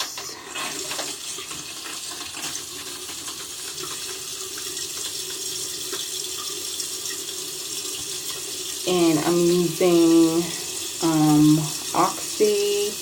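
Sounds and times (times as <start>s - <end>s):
sink tap running: 0.0s - 13.0s.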